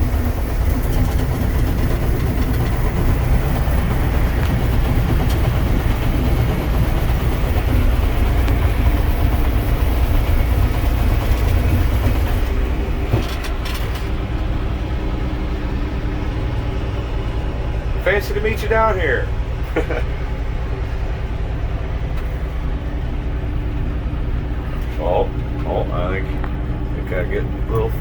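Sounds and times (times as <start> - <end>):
diesel engine drone: 0.0 - 28.0.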